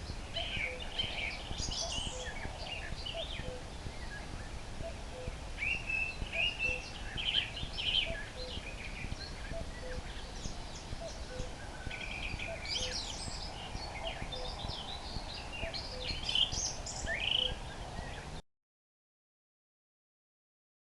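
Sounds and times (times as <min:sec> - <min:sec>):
nightingale singing: 0:00.0 - 0:18.4.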